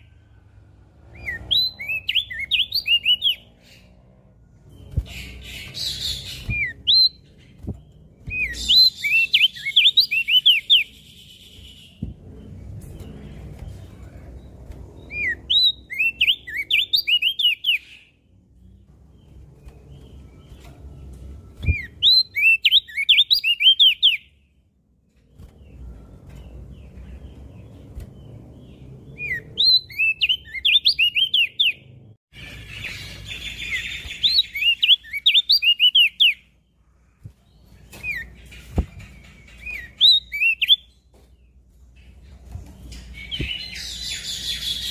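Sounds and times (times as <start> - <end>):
bird chirping high upward sweeps: 0.0 - 24.6, 25.3 - 44.9.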